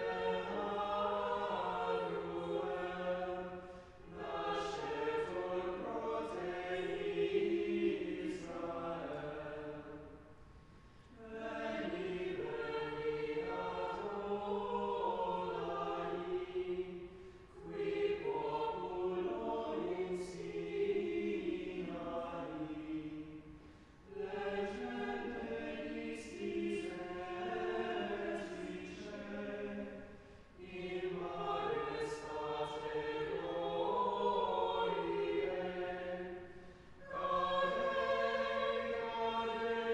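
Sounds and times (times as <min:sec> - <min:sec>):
choir singing chant: 0:00.0 - 0:10.2, 0:11.2 - 0:39.9.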